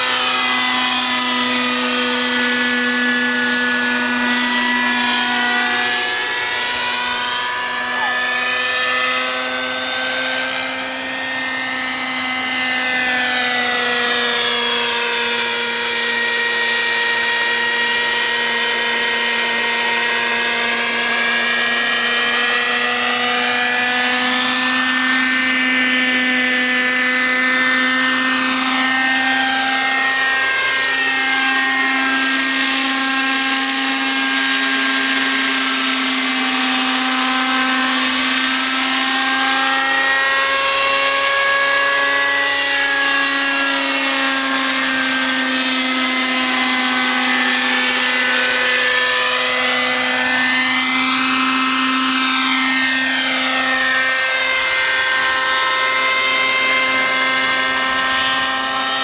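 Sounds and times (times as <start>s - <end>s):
model helicopter whine: 0.0s - 59.0s.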